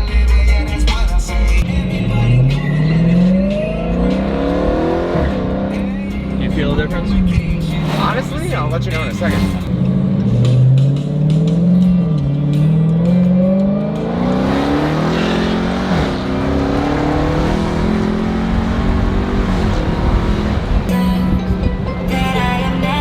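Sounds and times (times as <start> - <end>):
car engine accelerating: 0.6 - 23.0.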